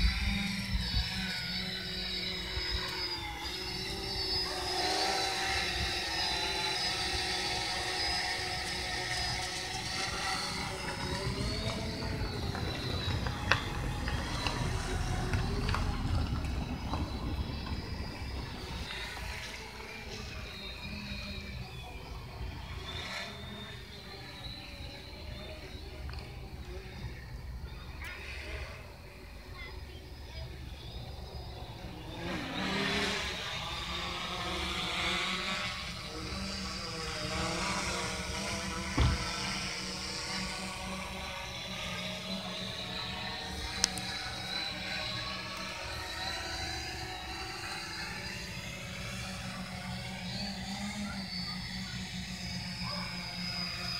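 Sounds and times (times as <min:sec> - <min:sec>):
drone propellers humming: 0:00.0 - 0:53.9.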